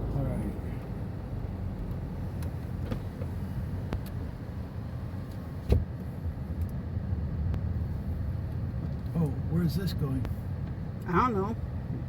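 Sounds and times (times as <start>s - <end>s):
car interior road and engine noise: 0.0s - 12.0s.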